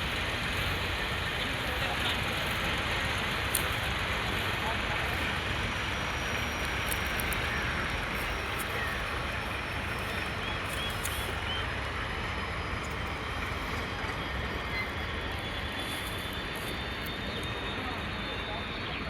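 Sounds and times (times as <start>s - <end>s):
running vehicle rumble: 0.0s - 19.0s.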